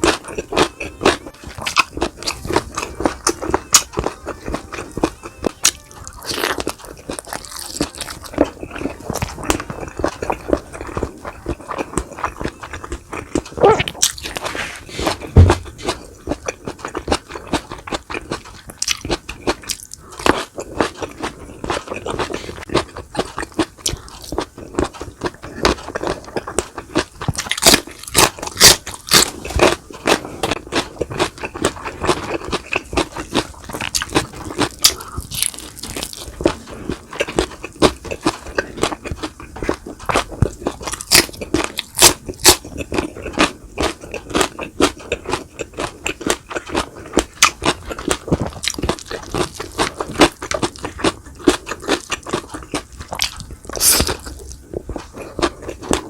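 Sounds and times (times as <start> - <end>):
crunchy bites and wet chewing: 0.0 - 56.0.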